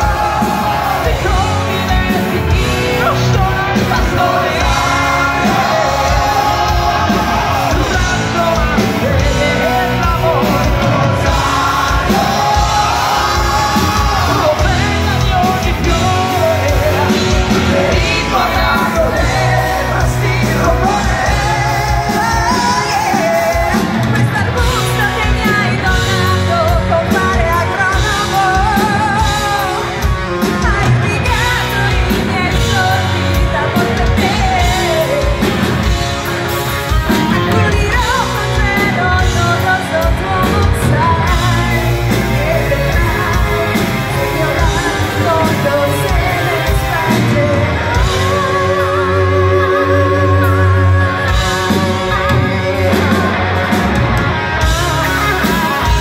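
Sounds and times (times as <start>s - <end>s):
bass guitar: 0.0s - 56.0s
drums: 0.0s - 56.0s
electric guitars: 0.0s - 56.0s
person singing lead vocal: 0.0s - 56.0s.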